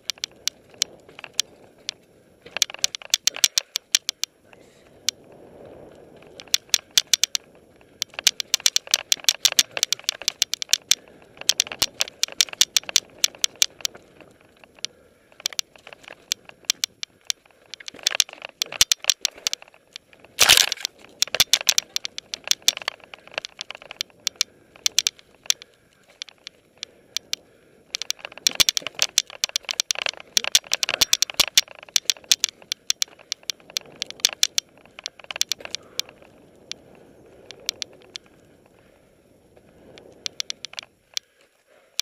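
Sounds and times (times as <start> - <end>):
bike rattling on rocky trail: 0.0 - 5.0, 5.7 - 39.0.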